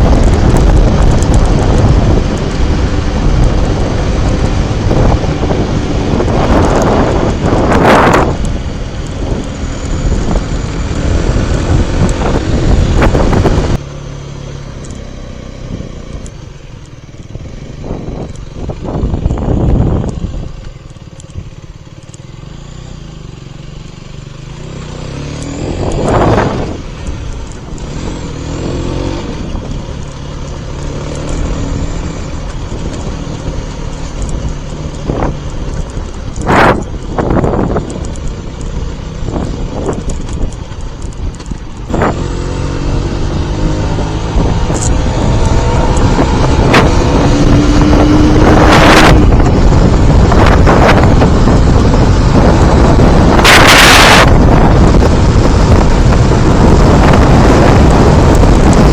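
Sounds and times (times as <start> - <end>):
wind buffeting microphone: 0.0 - 13.8, 17.2 - 21.6, 25.1 - 58.9
motorcycle engine: 0.0 - 58.9.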